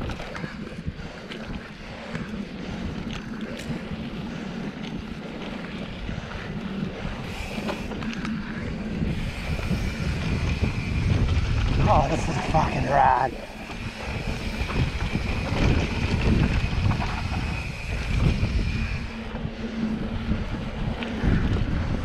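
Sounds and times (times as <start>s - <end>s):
bike clicks and rattles: 0.0s - 22.0s
bike tyres on dirt: 0.0s - 22.0s
wind buffeting microphone: 0.0s - 22.0s.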